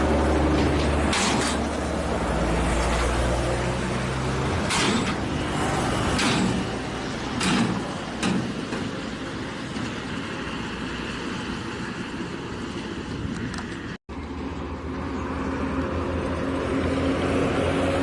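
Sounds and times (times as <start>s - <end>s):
diesel engine hum: 0.0s - 18.0s
vehicle noise: 0.0s - 18.0s.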